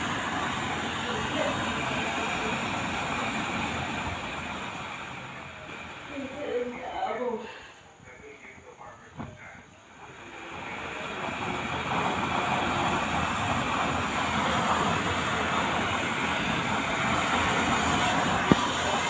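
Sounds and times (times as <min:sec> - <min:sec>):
stove fan and flame rushing: 0:00.0 - 0:19.0.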